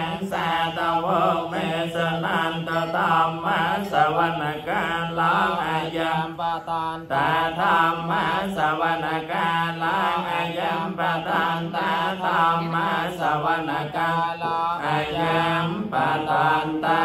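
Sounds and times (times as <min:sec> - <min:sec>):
person chanting verses: 0:00.0 - 0:17.0.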